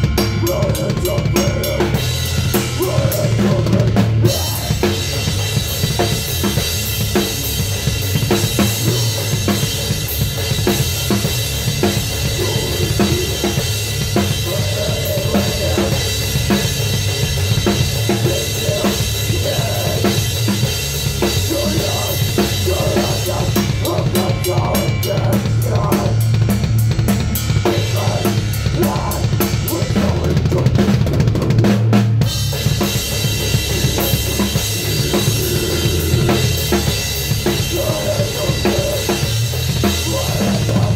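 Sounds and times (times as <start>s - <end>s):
drum kit played fast: 0.0s - 40.9s
live band playing: 0.0s - 40.9s.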